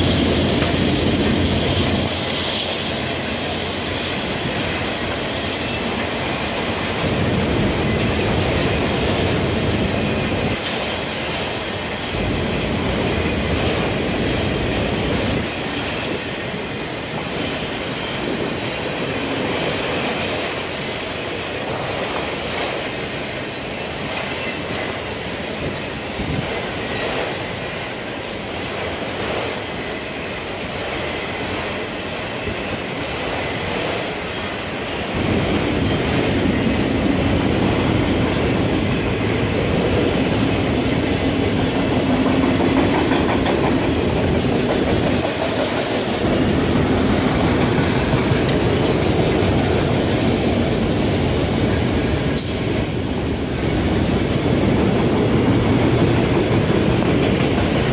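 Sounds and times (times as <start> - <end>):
train wheels running on rails: 0.0 - 57.9.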